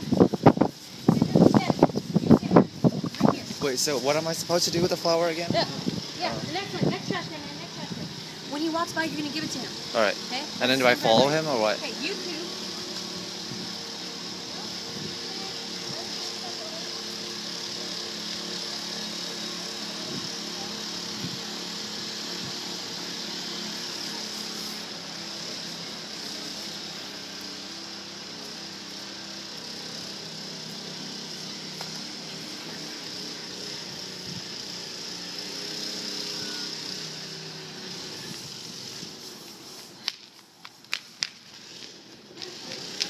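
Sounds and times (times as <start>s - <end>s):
engine drone: 0.0s - 43.0s
high hiss: 0.0s - 43.0s.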